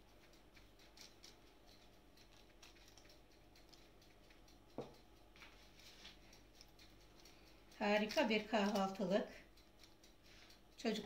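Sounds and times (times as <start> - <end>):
fingertips patting dough: 0.0 - 11.0.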